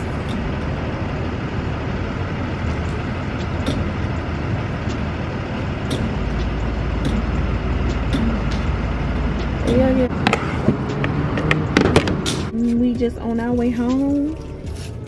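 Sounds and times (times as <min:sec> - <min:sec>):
car engine running: 0:00.0 - 0:15.0
road rumble: 0:00.0 - 0:15.0.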